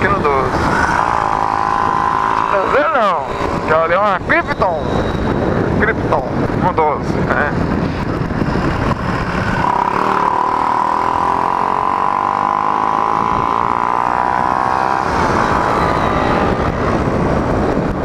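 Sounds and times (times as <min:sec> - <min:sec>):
motorcycle engine running: 0:00.0 - 0:06.6, 0:07.2 - 0:18.0
wind noise on microphone: 0:00.0 - 0:18.0.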